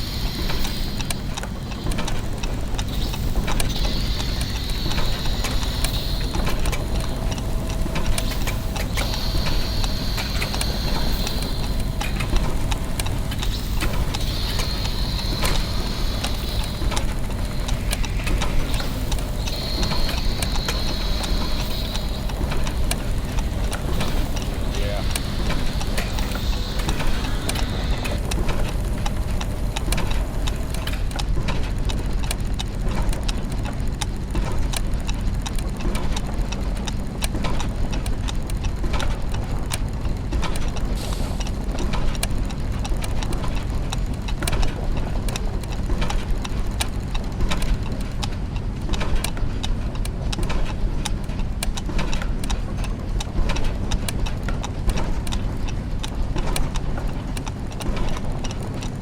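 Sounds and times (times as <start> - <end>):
clockwork gears ticking: 0.0 - 59.0
low mechanical hum: 0.0 - 59.0.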